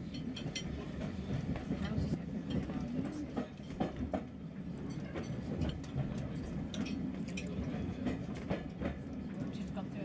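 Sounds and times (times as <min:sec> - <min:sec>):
train coach rumbling on track: 0:00.0 - 0:10.0.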